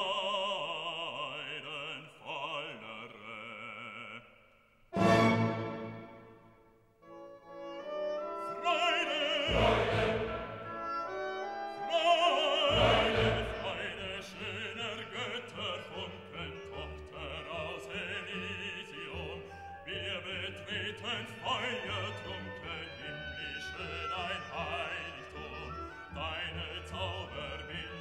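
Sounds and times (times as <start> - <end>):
operatic voice singing: 0.0 - 4.4, 8.4 - 10.8, 11.8 - 28.0
orchestral accompaniment: 5.0 - 28.0.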